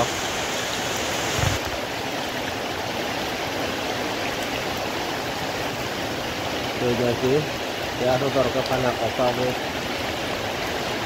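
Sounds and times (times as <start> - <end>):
heavy rain splashing into water: 0.0 - 11.0.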